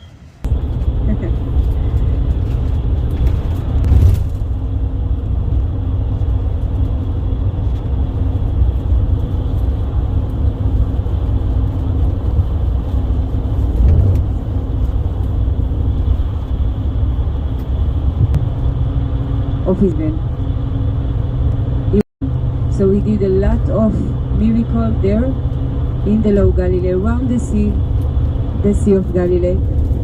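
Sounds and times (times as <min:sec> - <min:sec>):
bus engine and road rumble: 0:00.0 - 0:30.0
faint constant hum: 0:00.2 - 0:30.0.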